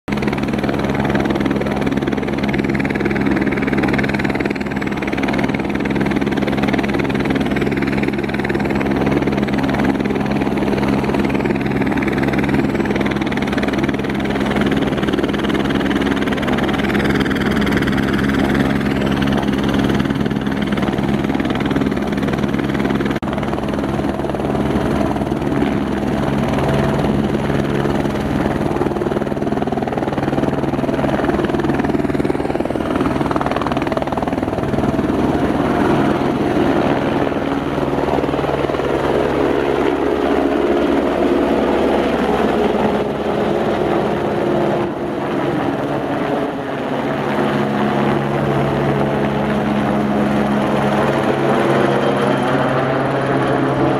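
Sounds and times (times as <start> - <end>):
helicopter engine and rotor: 0.1 - 53.9.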